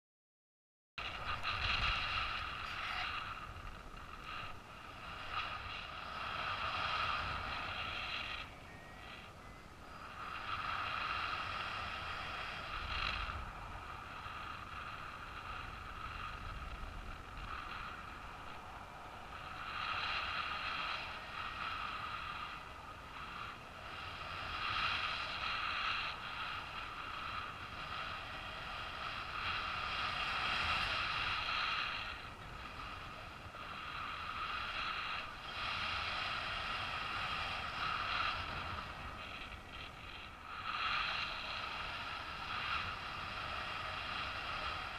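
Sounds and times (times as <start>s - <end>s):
wind buffeting a camera: 1.0s - 44.9s.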